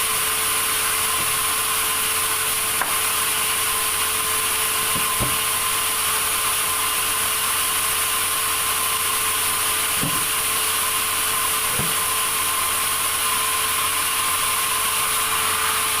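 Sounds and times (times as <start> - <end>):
sawmill saw whining: 0.0 - 16.0.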